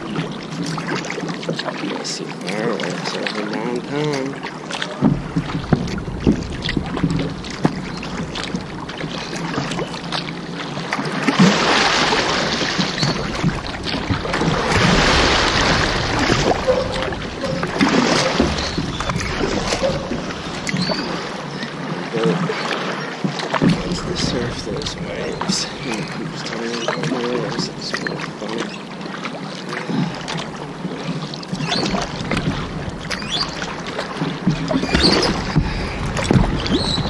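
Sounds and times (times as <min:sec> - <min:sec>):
knocks and clicks on a boat: 0:00.0 - 0:37.0
water sloshing against a kayak: 0:00.0 - 0:37.0.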